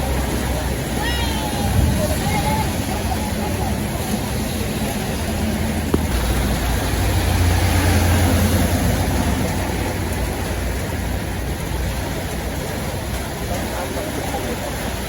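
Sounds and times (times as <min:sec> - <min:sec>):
bus diesel engine rumbling: 0:00.0 - 0:15.0
road traffic noise: 0:00.0 - 0:15.0.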